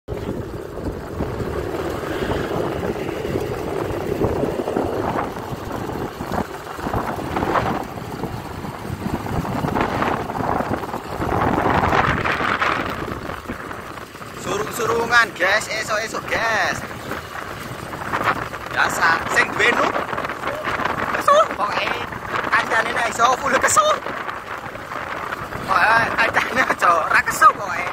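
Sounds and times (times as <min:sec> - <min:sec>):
scooter engine: 0:00.1 - 0:27.9
wind rushing over microphone: 0:00.1 - 0:27.9.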